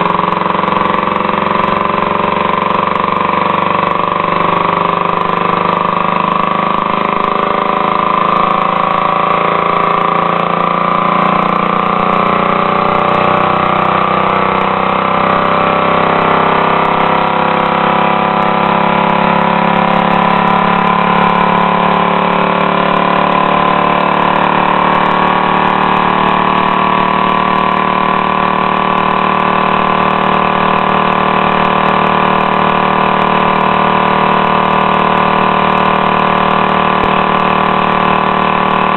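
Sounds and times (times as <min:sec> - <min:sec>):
compressed-air motor running: 0:00.0 - 0:38.9.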